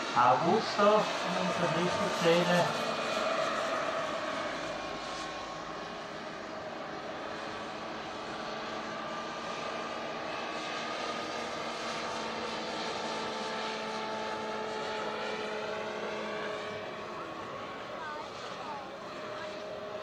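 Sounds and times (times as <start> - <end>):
model helicopter turbine whine: 0.0 - 20.0.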